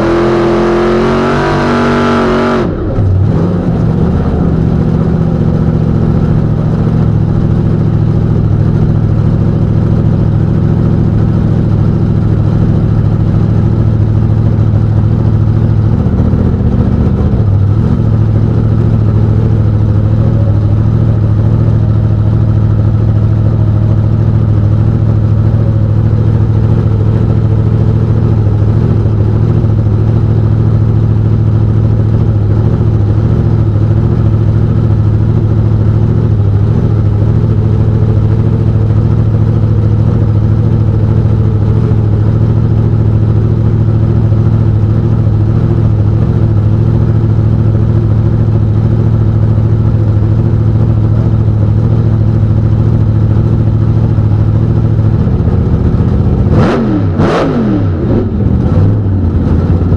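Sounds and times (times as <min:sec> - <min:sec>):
racing car engine idling: 0:00.0 - 0:59.9.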